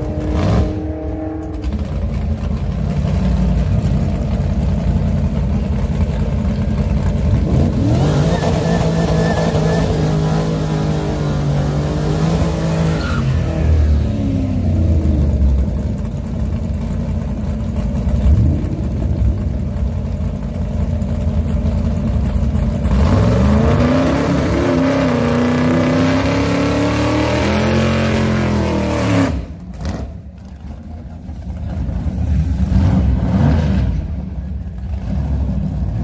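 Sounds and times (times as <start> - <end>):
drag car engine revving: 0.0 - 36.0.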